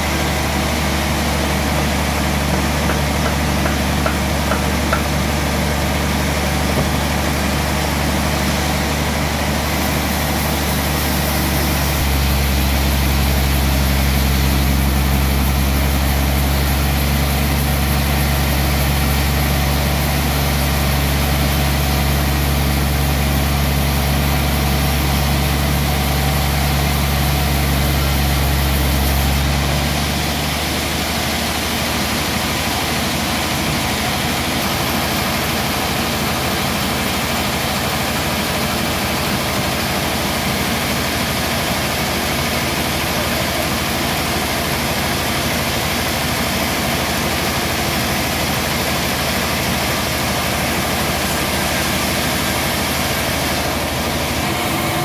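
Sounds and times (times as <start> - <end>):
bandsaw mill humming: 0.0 - 55.0.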